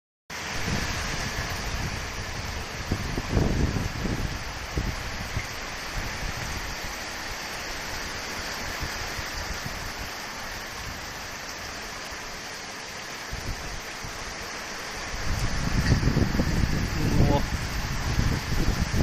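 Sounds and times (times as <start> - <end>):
wind blowing hiss: 0.3 - 19.0
wind gusts buffeting microphone: 0.4 - 11.8, 13.1 - 19.0.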